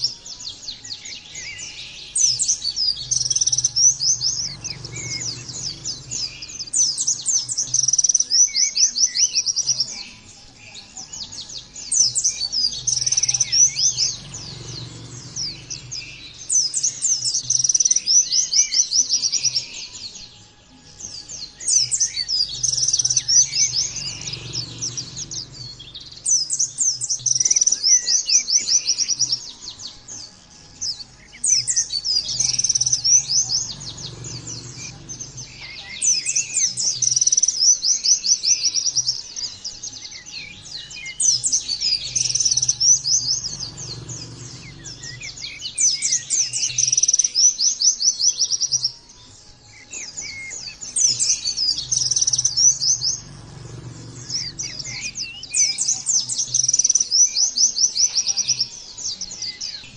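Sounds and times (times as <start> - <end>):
high twittering birdsong: 0.0 - 59.9.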